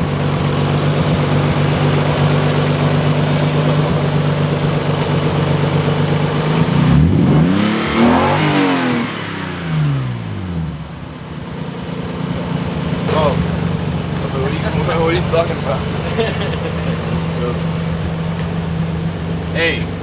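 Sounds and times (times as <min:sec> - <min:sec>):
car engine idling: 0:00.0 - 0:20.0
engine revving: 0:00.0 - 0:20.0.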